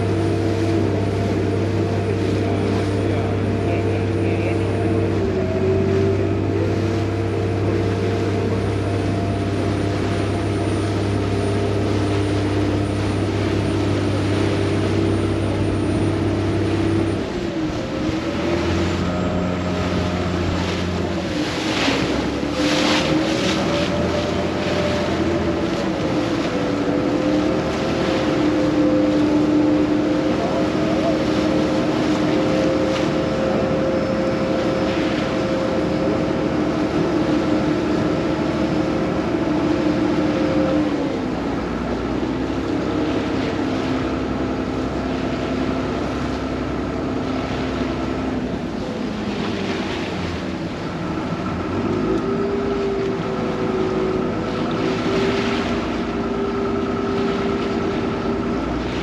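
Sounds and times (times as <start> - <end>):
boat diesel engine running: 0.0 - 59.0
water noise: 0.0 - 59.0
wind: 0.0 - 59.0.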